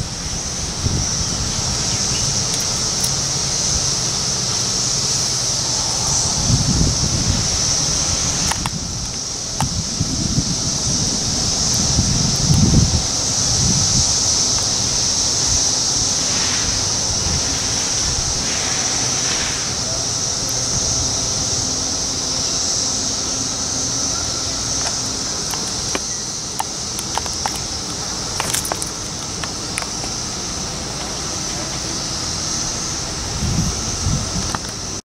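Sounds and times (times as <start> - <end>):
cicadas buzzing: 0.0 - 35.0.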